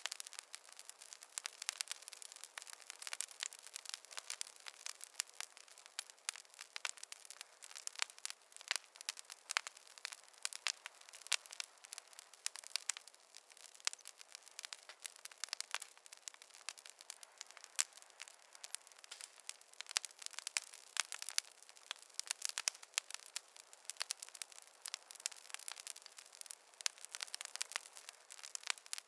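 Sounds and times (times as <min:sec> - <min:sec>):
campfire crackling: 0:00.0 - 0:29.0
faint hiss: 0:00.0 - 0:29.0.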